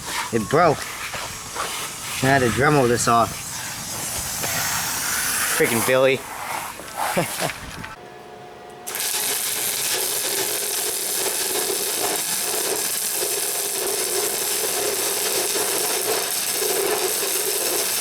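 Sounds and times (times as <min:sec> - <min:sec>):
harsh hissing metalwork noise: 0:00.0 - 0:08.0, 0:08.9 - 0:18.0.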